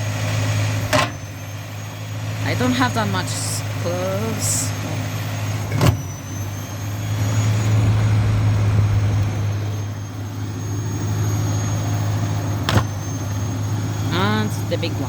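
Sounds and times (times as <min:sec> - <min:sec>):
thin high whine: 0:00.0 - 0:15.0
washing machine drum spinning: 0:00.0 - 0:15.0.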